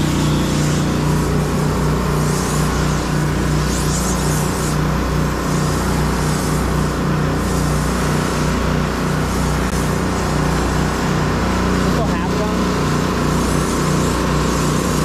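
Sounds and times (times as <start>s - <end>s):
pressure washer pump hum: 0.0s - 15.0s
water jet spraying on wood: 0.0s - 15.0s.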